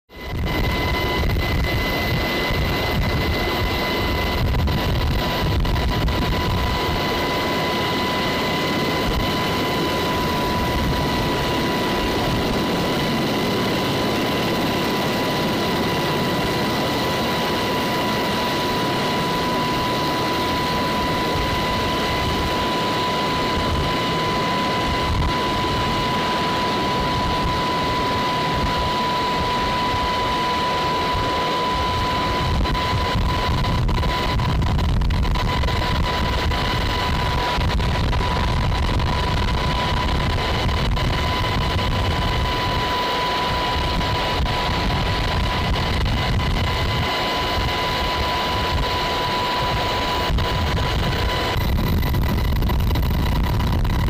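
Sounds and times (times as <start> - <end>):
helicopter rotor and engine noise: 0.1 - 54.0
high-pitched whine: 0.1 - 54.0.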